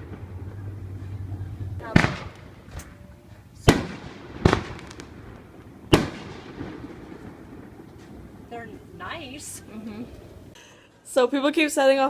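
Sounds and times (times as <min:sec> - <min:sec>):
faint firework crackle: 0:00.0 - 0:10.6
fireworks banging: 0:00.0 - 0:10.6.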